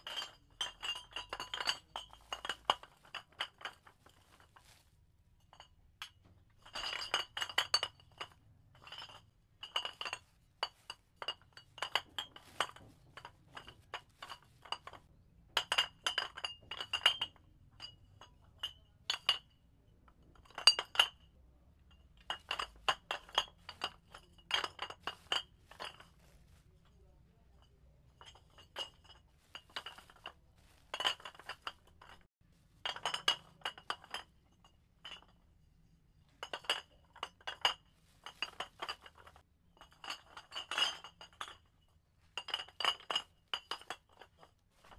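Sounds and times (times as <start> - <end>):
glass bottles clinking: 0.0 - 4.8, 5.4 - 44.9.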